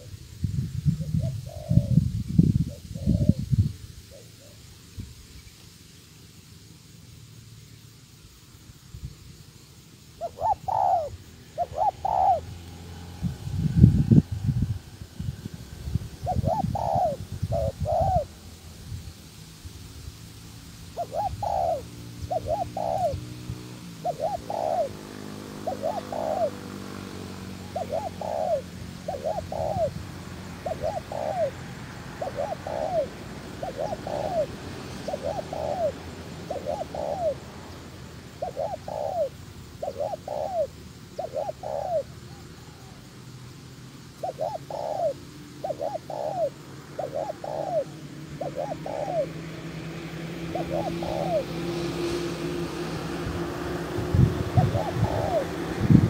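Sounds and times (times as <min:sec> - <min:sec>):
dove cooing: 0:00.9 - 0:04.6, 0:10.1 - 0:18.6, 0:20.8 - 0:43.1, 0:44.1 - 0:56.0
low engine hum: 0:06.6 - 0:56.0.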